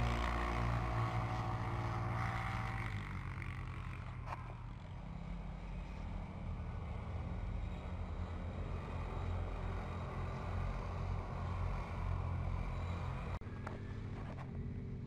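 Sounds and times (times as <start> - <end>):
different engine sound: 0.0 - 15.0
distant quad bike engines: 0.0 - 15.0.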